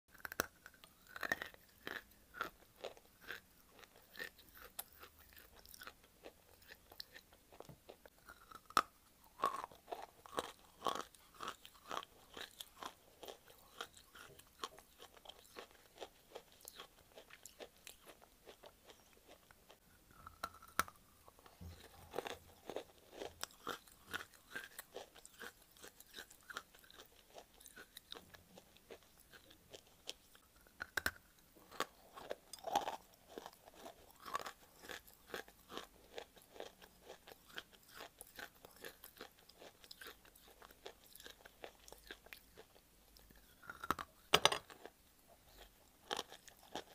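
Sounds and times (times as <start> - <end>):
clay crunching being chewed: 0.1 - 46.9.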